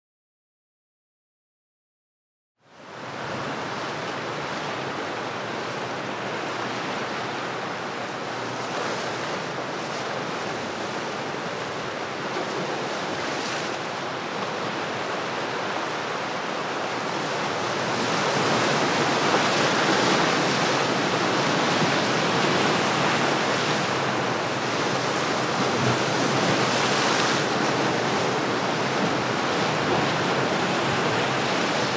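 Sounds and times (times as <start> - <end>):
sea waves washing: 2.8 - 31.9.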